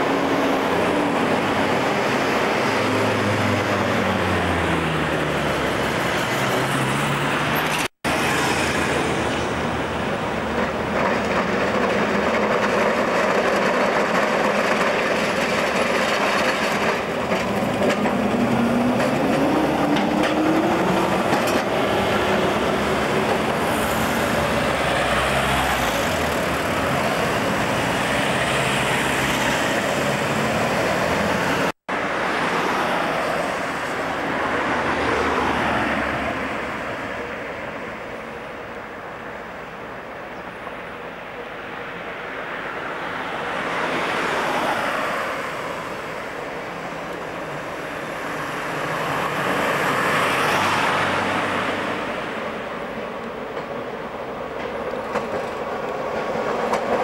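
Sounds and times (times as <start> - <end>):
road vehicle engines and tyres: 0.0 - 57.0
tram rail sounds: 0.0 - 57.0.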